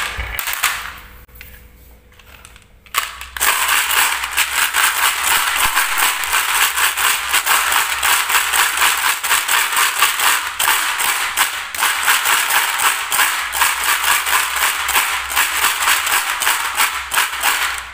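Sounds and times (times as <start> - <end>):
marbles and steel balls rattling: 2.9 - 17.9.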